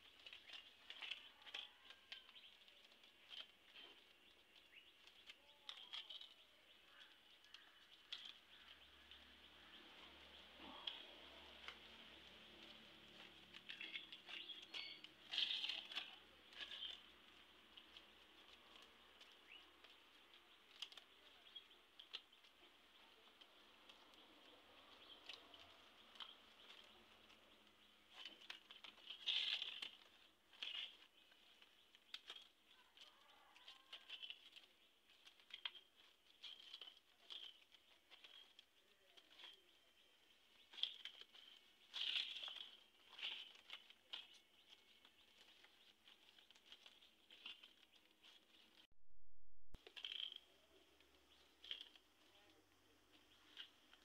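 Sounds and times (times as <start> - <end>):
leaves rustling and crinkling: 0.0 - 48.9, 49.8 - 54.0.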